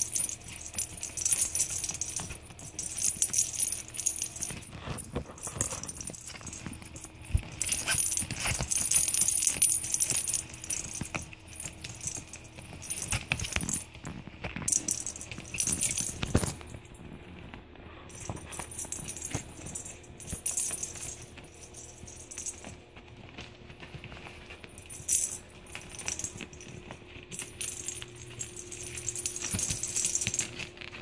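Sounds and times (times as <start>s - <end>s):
bell jingling in toy ball: 0.0s - 16.9s, 18.1s - 22.8s, 24.1s - 30.9s.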